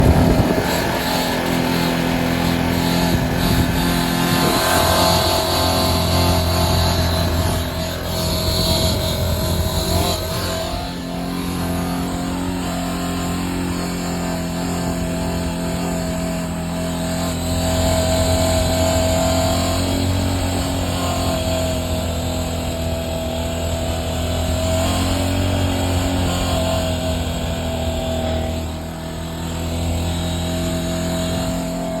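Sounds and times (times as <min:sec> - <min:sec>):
motorcycle engine running: 0:00.0 - 0:32.0
thin whine: 0:00.0 - 0:32.0.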